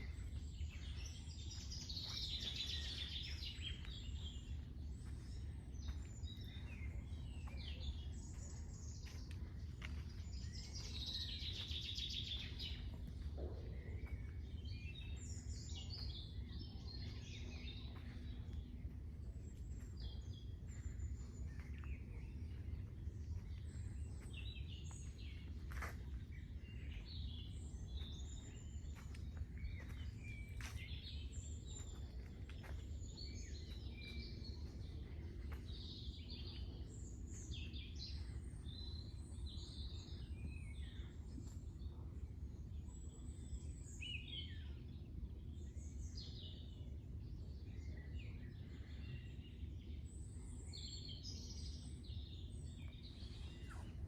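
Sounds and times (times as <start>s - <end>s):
small birds chirping: 0.0s - 54.0s
steady low rumble: 0.0s - 54.0s.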